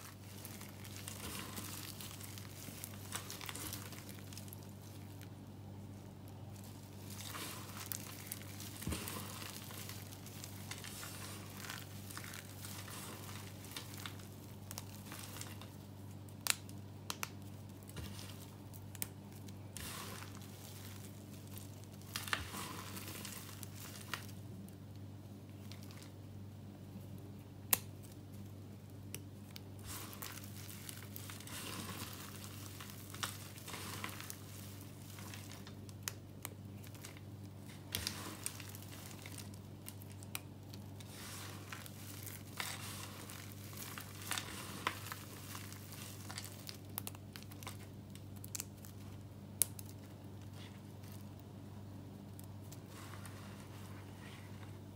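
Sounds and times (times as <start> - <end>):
soap chips crackling: 0.0 - 26.2, 27.6 - 54.5.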